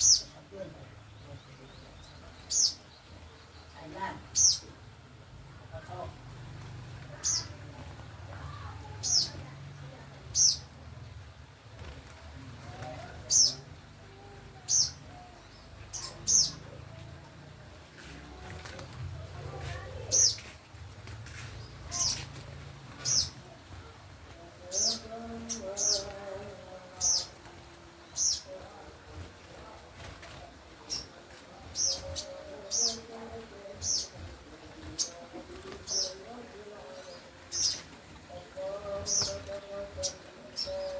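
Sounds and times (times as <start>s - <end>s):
songbird chirping: 0.0s - 40.9s.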